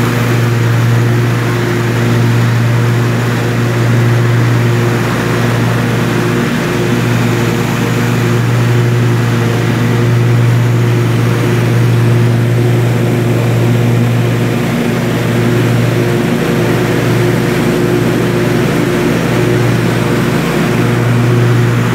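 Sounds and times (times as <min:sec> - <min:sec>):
mower engine humming: 0:00.0 - 0:21.9.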